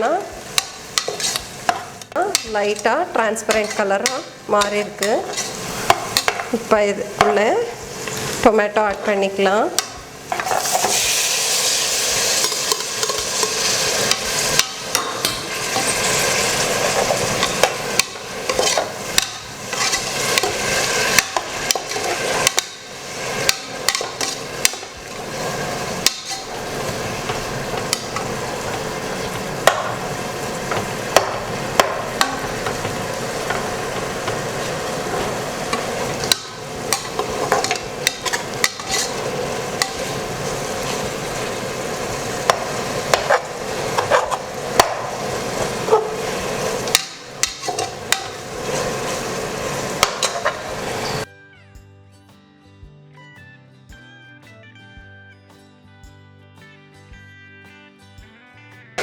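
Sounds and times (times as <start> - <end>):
vegetables sizzling in oil: 0.0 - 51.3
spoon scraping a pan: 0.3 - 51.3.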